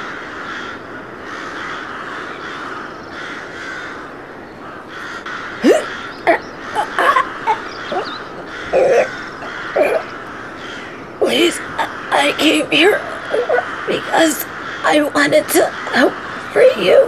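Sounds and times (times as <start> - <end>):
crows cawing: 0.0 - 17.0
steady background noise: 0.0 - 17.0.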